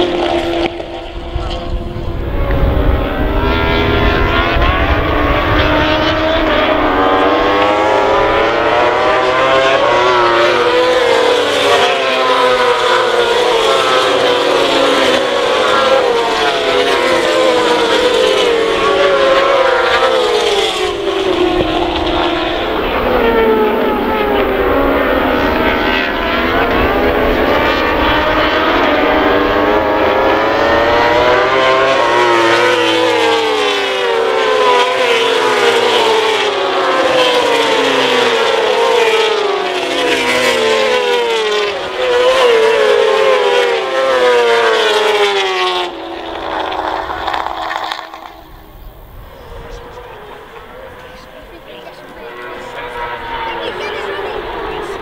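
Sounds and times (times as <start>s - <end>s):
racing motorcycles shifting gears: 0.0s - 55.0s.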